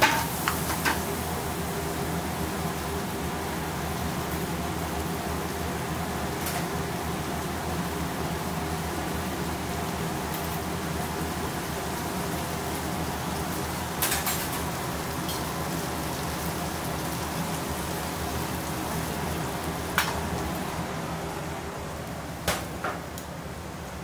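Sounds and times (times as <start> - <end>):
kitchen hiss and hum: 0.0 - 24.0.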